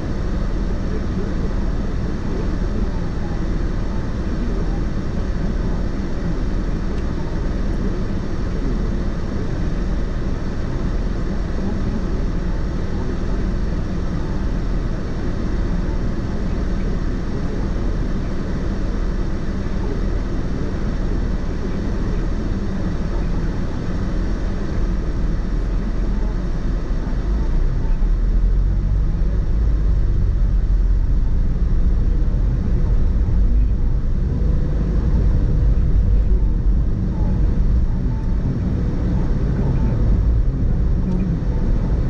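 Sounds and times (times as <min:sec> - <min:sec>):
car tyre and engine rumble: 0:00.0 - 0:42.0.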